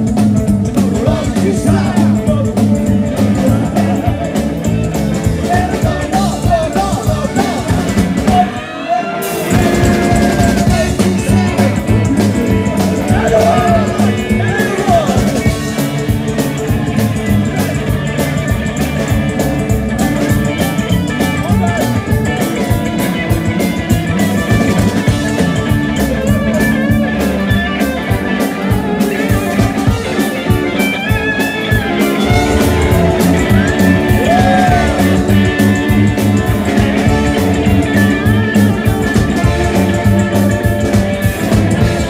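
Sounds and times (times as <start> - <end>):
drums beating: 0.0 - 42.0
electric guitars: 0.0 - 42.0
upright bass: 0.0 - 42.0
voices singing: 0.5 - 24.7, 28.6 - 42.0.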